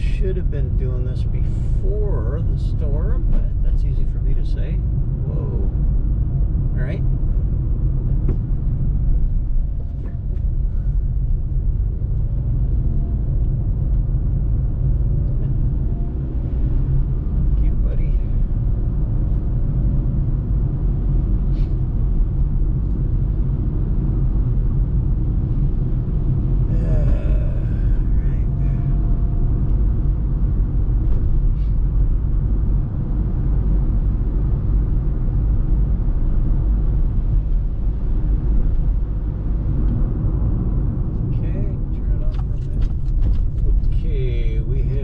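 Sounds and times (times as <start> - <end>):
road and engine rumble in car: 0.0 - 45.0.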